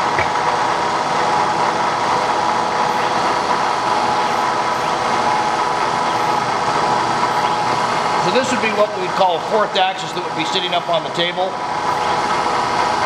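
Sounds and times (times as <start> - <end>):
drive motor humming with whine: 0.0 - 13.0.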